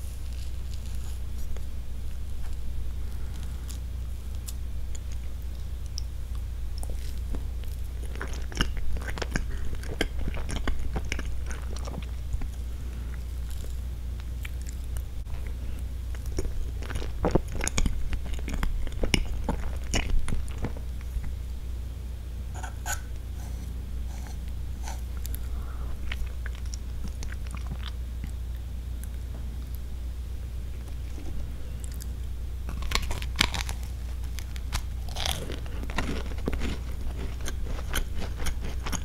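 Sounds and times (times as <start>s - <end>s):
wet chewing: 0.0s - 21.5s, 22.6s - 29.8s, 30.6s - 39.0s
steady low hum: 0.0s - 39.0s.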